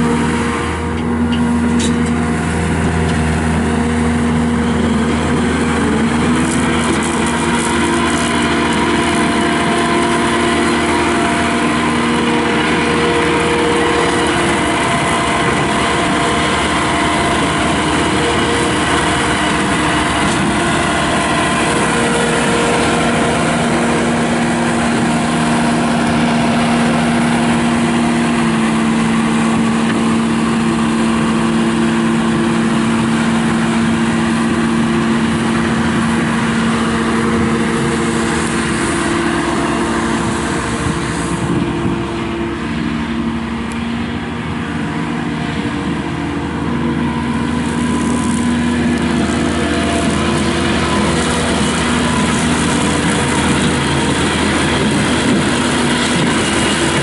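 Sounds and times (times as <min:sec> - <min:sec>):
skid steer engine running hard: 0:00.0 - 0:57.0.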